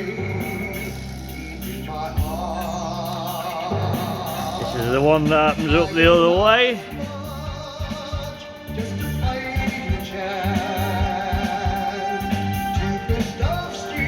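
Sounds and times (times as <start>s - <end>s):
song with person singing over beat: 0.0s - 14.0s.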